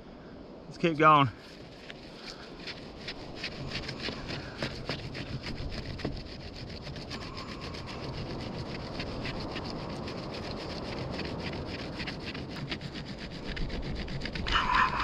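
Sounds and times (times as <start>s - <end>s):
wood rubbing on cloth: 1.4s - 15.0s.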